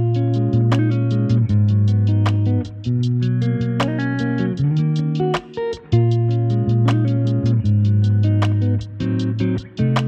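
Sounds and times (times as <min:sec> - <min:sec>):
plucked guitar music with bass and beat: 0:00.0 - 0:10.0.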